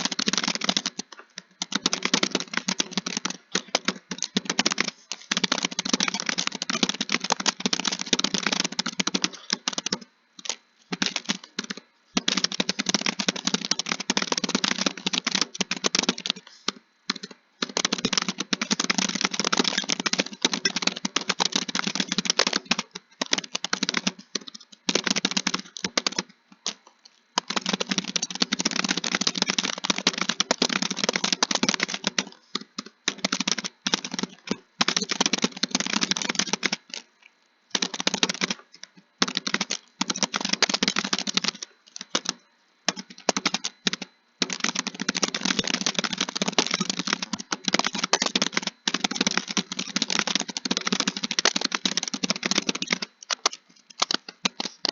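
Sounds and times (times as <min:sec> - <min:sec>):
fast typing on keyboard: 0:00.0 - 0:54.9.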